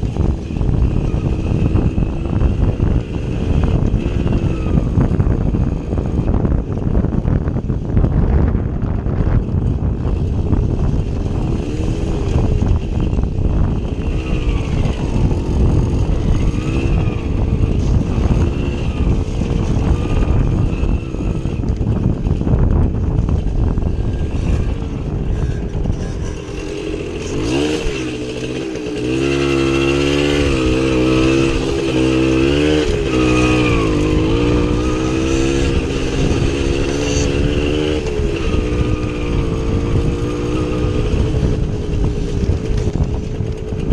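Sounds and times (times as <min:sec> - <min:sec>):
motorcycle engine revving: 0:00.0 - 0:43.9
rough noisy rumble: 0:00.0 - 0:43.9.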